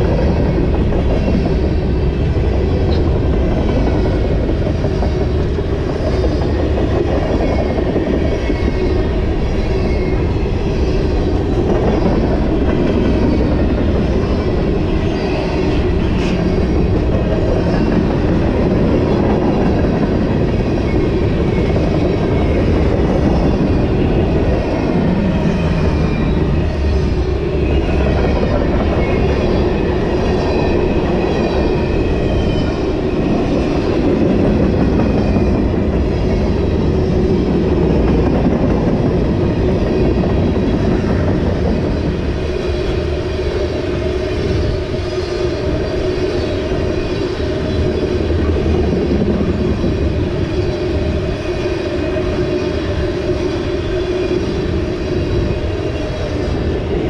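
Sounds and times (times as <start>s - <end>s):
freight train rolling past: 0.0s - 57.0s
wheels clickety-clack on rail: 0.0s - 57.0s.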